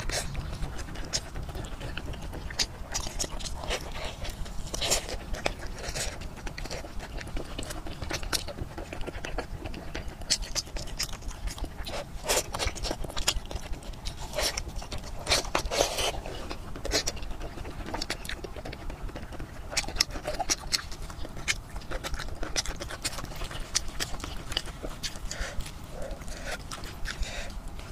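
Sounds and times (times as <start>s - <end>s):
biting and chewing food: 0.0s - 27.9s.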